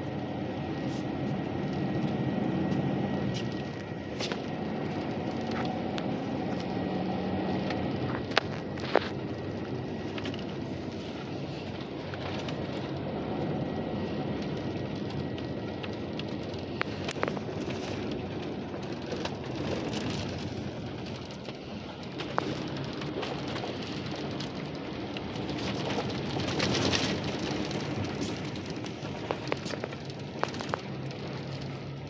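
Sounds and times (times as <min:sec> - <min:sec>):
bus engine hum: 0:00.0 - 0:32.0
road noise: 0:00.0 - 0:32.0.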